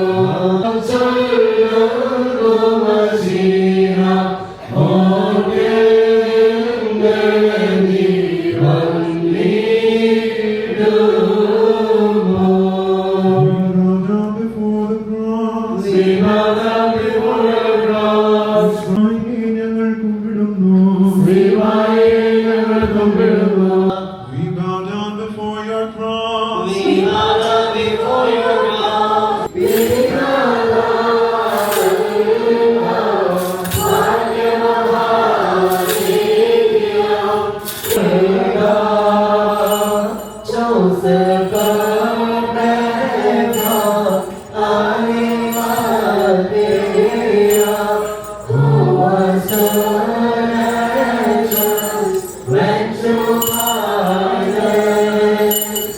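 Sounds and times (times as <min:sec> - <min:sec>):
voices singing a slow hymn: 0:00.0 - 0:55.9.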